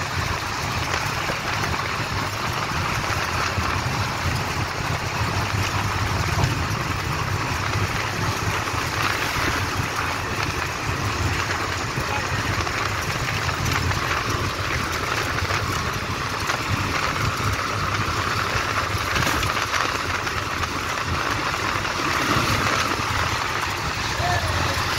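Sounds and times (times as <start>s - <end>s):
road and wind noise: 0.0s - 24.9s
vehicle engine hum: 0.0s - 24.9s.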